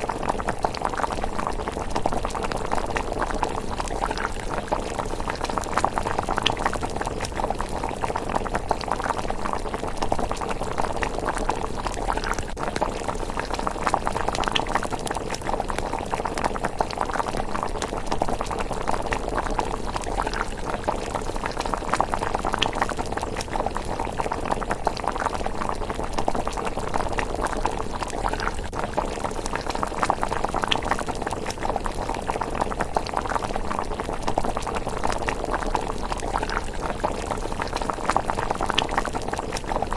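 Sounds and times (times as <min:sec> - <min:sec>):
porridge bubbling in a pot: 0:00.0 - 0:39.9.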